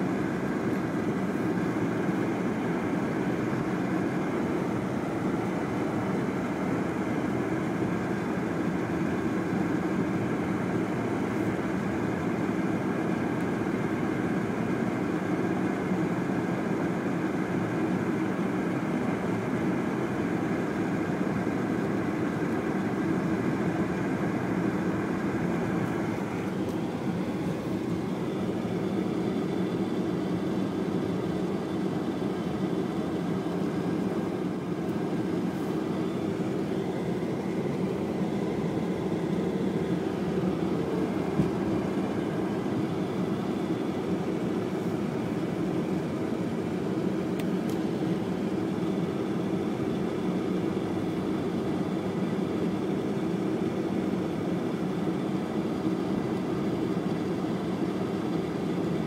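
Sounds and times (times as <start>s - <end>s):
car engine noise inside cabin: 0.0s - 59.0s.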